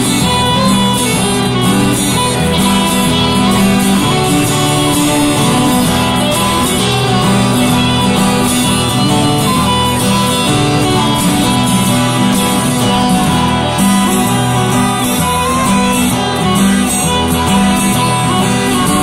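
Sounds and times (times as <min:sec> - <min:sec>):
fiddle: 0:00.0 - 0:19.0
plucked strings: 0:00.0 - 0:19.0
strummed guitar: 0:00.0 - 0:19.0.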